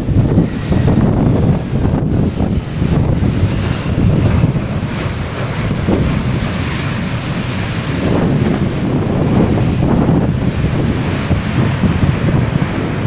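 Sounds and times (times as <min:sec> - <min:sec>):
gusting wind buffeting microphone: 0:00.0 - 0:13.0
jet engines whining: 0:00.0 - 0:13.0.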